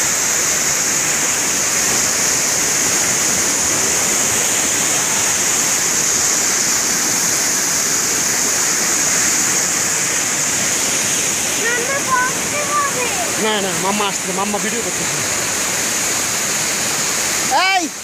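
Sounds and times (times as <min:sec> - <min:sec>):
waterfall rushing hiss: 0:00.0 - 0:18.0.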